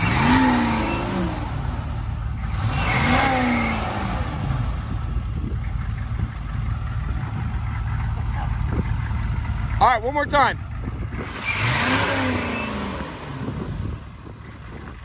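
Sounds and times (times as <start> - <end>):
engine revving and idling: 0.0 - 15.0.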